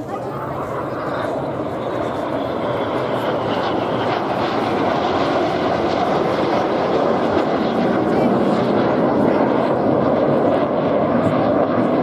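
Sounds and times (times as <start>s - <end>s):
jet engines rumbling overhead: 0.0s - 12.0s.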